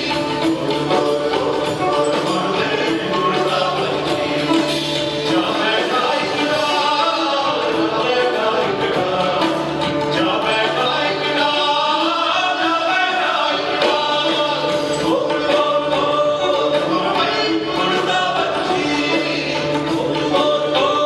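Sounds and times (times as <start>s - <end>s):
man singing: 0.0s - 21.0s
rock band playing live: 0.0s - 21.0s.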